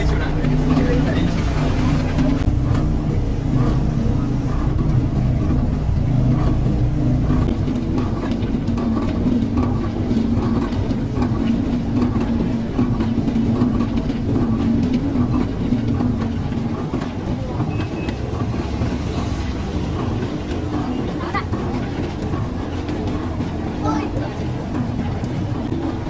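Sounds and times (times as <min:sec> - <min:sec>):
machine motor humming: 0:00.0 - 0:26.0.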